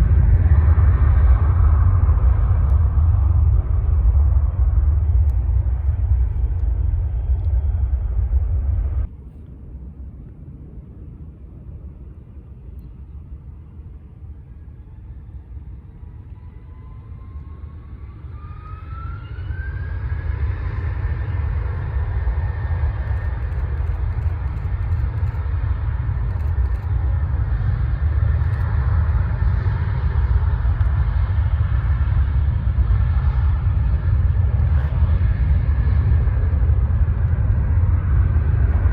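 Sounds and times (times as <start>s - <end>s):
jet airliner engine rumble: 0.0s - 38.9s
jet engine whine: 0.0s - 38.9s.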